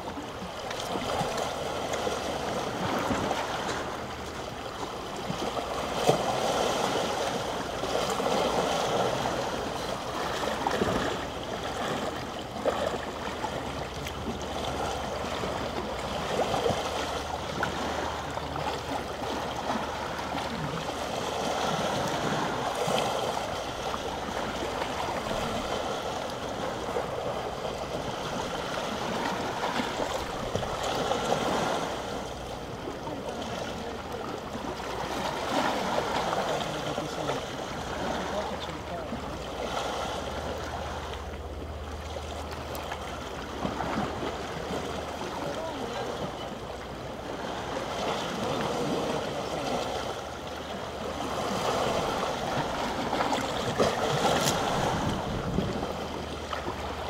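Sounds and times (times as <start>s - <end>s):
waves lapping on stone beach: 0.0s - 57.0s.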